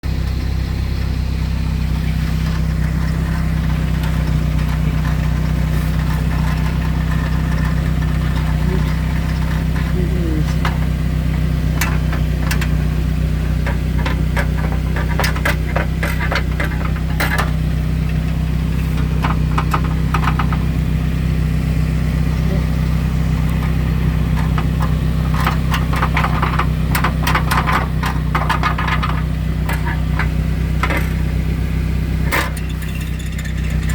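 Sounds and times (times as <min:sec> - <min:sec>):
car engine idling: 0:00.0 - 0:33.9
exhaust heat shield rattling: 0:00.1 - 0:33.9.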